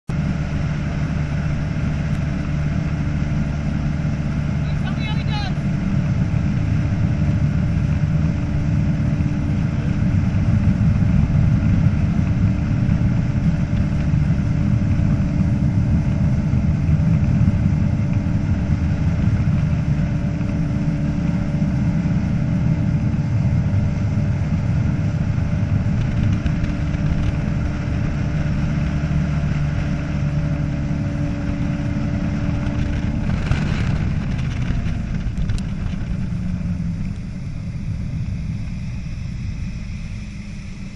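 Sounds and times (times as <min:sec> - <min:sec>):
boat engine running: 0:00.0 - 0:40.9
wind: 0:00.0 - 0:40.9.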